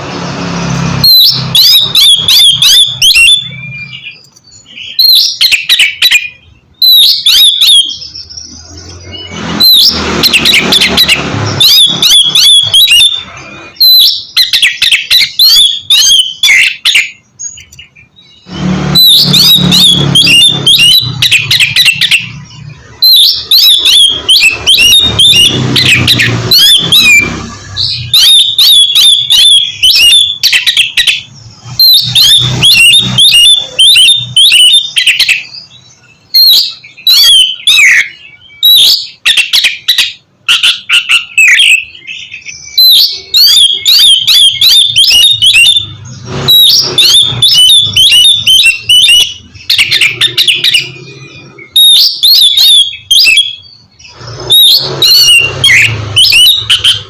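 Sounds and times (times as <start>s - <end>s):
bird singing varied whistles: 1.0s - 57.0s.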